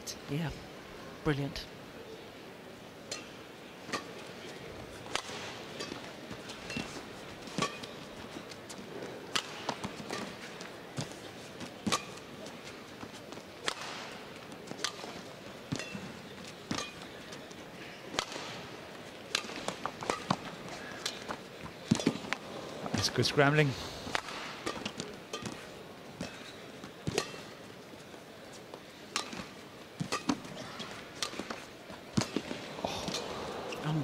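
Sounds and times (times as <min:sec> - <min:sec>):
crowd hum: 0:02.2 - 0:34.0
rackets hitting shuttlecock: 0:03.1 - 0:08.2, 0:09.0 - 0:12.8, 0:13.6 - 0:23.2, 0:24.1 - 0:27.9, 0:28.8 - 0:33.8
shoes squeaking on court: 0:03.9 - 0:23.4, 0:24.2 - 0:34.0.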